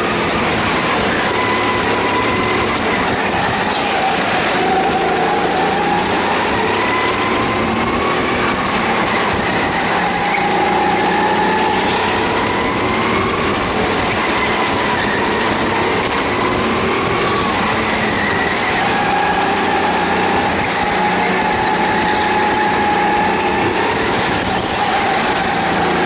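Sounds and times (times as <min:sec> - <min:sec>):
go-kart engine running hard: 0:00.0 - 0:26.0.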